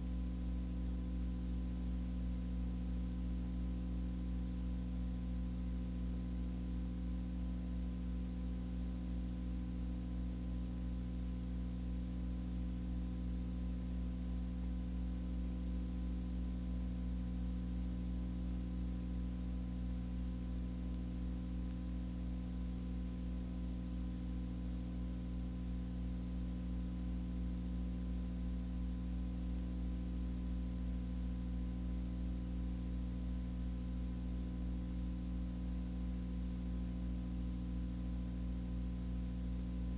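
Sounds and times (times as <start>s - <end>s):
low hum with hiss: 0.0s - 39.9s.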